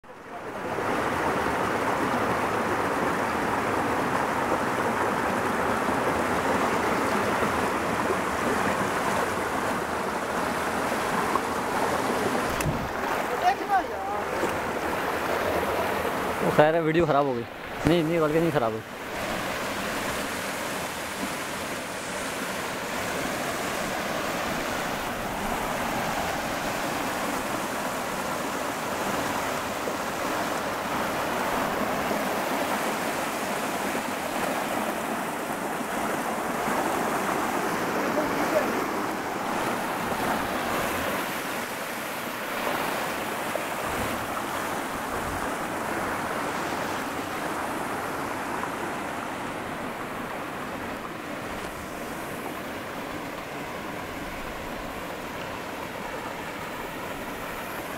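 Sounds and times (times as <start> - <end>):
stream water cascading over rocks: 0.1 - 57.9.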